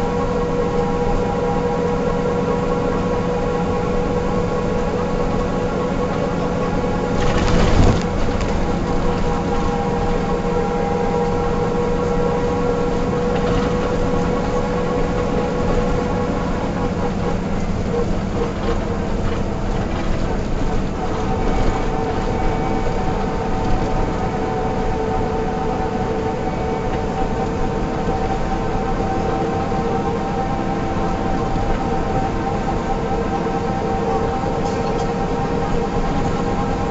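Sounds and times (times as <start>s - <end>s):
bus diesel engine droning: 0.0s - 36.9s
higher engine whine: 0.0s - 36.9s.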